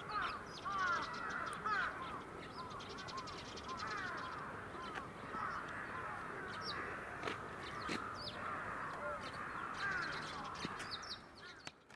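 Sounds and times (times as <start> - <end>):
flock of birds calling: 0.0 - 11.9.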